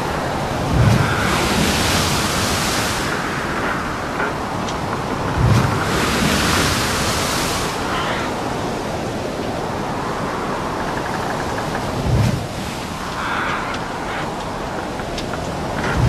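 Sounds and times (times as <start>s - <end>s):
sea surf: 0.0s - 16.0s
wind: 0.0s - 16.0s.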